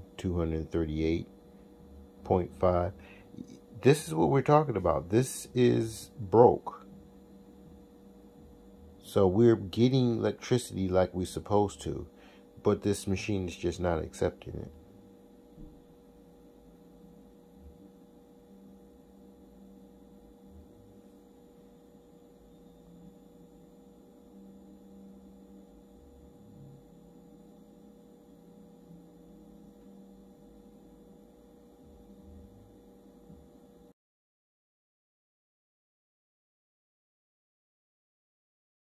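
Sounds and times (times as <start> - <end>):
inverter electrical hum: 0.0 - 34.0.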